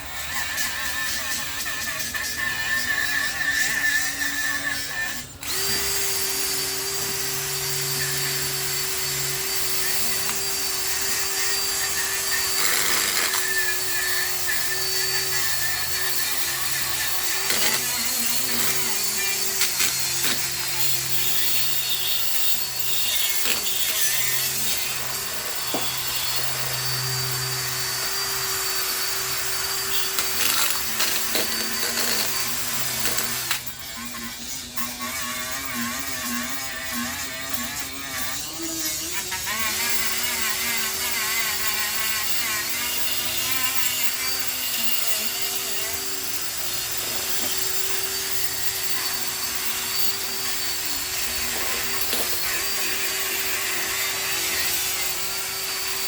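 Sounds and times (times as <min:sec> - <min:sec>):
power tool stripping rust from metal: 0:00.0 - 0:56.0.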